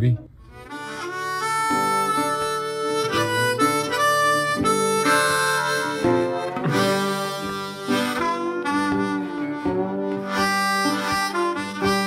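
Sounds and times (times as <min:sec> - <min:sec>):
sustained chords: 0:00.0 - 0:11.8
harmonica melody: 0:00.4 - 0:12.0.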